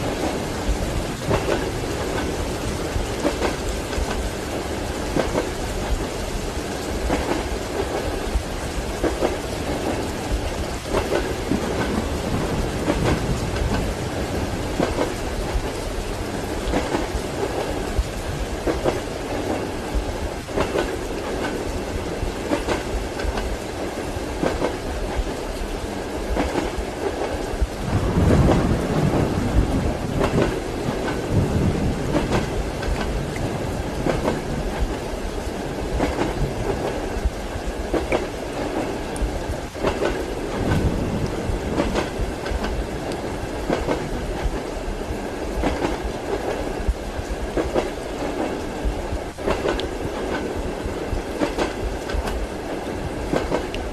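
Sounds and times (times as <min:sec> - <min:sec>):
rain hiss: 0:00.0 - 0:53.9
thunder rumble: 0:00.0 - 0:53.9
train wheels clacking on rails: 0:00.0 - 0:53.9.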